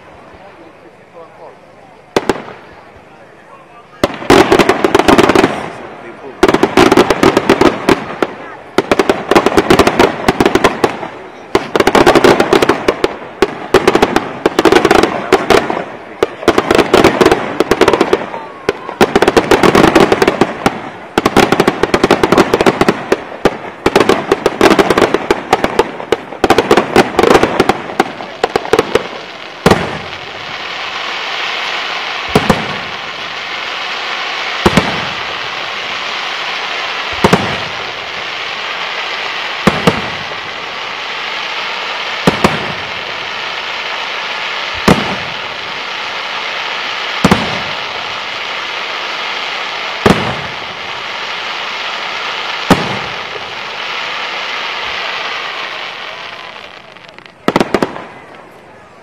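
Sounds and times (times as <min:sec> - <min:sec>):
steady hiss: 0:00.0 - 0:59.0
loud firework bangs: 0:02.1 - 0:02.8, 0:03.9 - 0:58.4
firework shell bursts and crackling: 0:04.0 - 0:05.8, 0:06.4 - 0:56.0.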